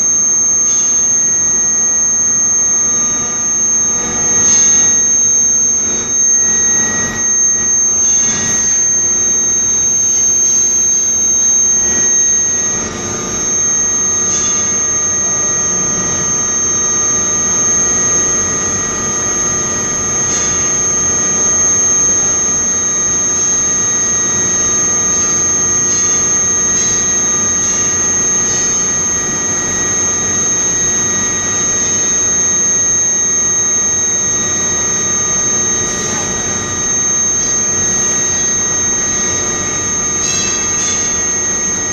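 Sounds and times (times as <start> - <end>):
high-pitched whine: 0.0 - 41.9
mechanical noise: 0.0 - 41.9.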